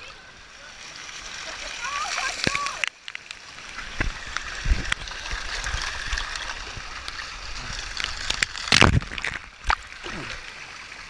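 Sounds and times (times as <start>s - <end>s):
water sloshing and rushing: 0.0s - 11.0s
water splashes: 0.0s - 11.0s.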